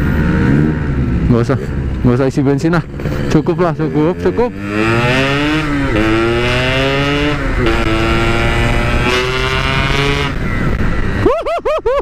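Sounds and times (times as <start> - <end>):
two-stroke motorcycle accelerating: 0.0 - 11.4.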